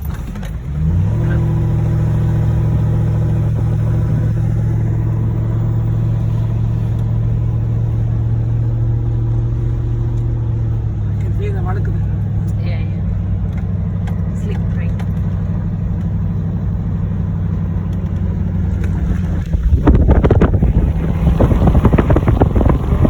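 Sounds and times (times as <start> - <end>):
car engine driving: 0.0 - 23.0.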